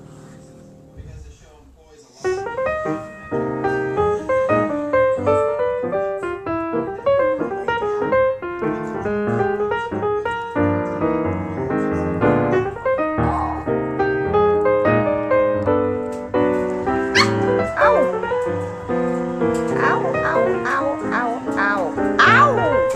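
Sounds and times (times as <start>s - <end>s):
piano music: 0.0s - 1.0s, 2.3s - 22.9s.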